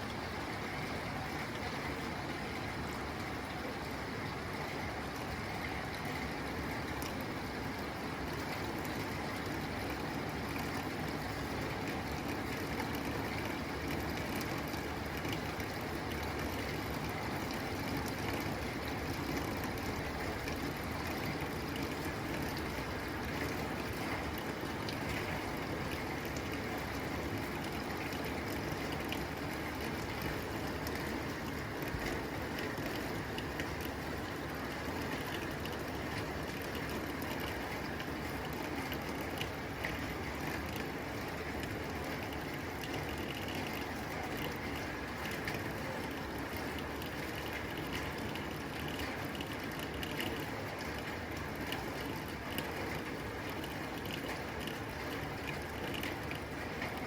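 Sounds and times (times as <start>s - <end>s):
faint drip ticks: 0.0s - 57.0s
rain on a tin roof: 0.0s - 57.0s.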